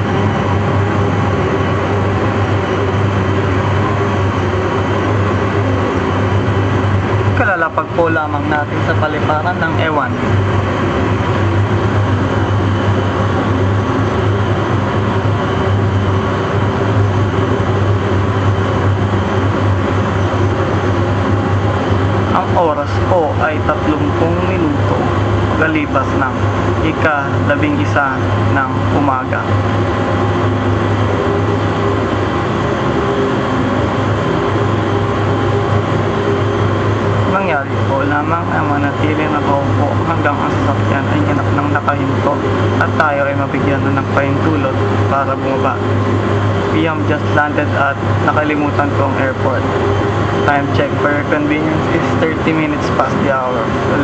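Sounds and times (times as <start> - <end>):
constant rushing noise: 0.0 - 54.0
deep engine hum: 0.0 - 54.0
propeller drone: 0.0 - 54.0.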